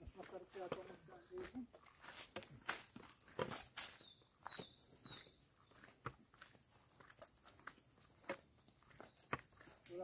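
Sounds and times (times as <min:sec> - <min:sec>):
footsteps on concrete: 0:00.0 - 0:10.0.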